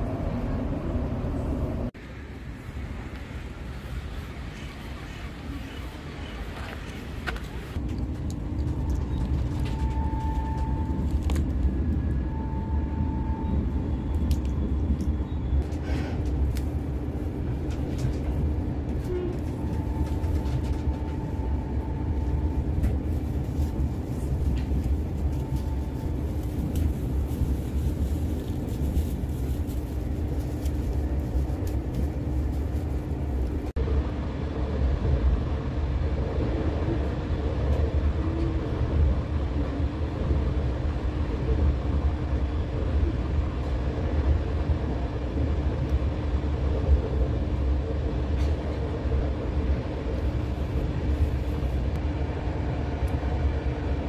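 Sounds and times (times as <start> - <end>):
train rumbling inside carriage: 0.0 - 54.0.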